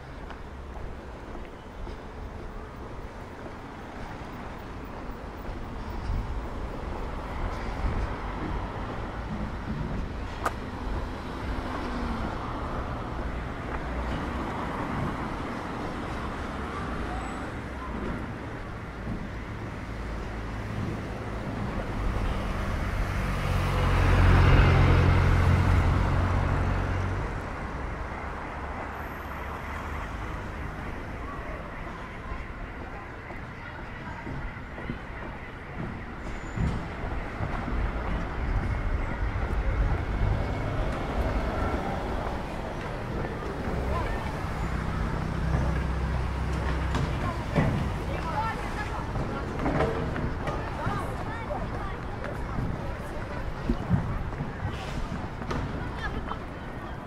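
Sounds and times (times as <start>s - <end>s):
street traffic rumbling: 0.0s - 57.0s.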